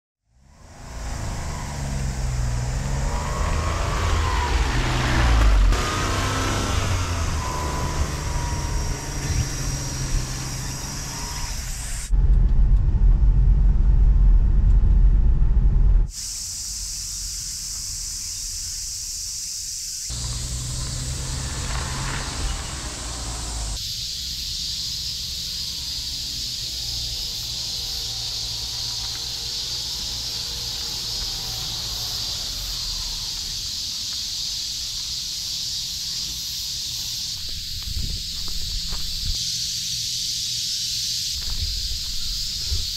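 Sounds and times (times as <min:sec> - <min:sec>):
insects buzzing: 0:00.4 - 0:12.1, 0:16.1 - 0:42.9
truck engine running: 0:00.6 - 0:15.7, 0:20.1 - 0:39.4.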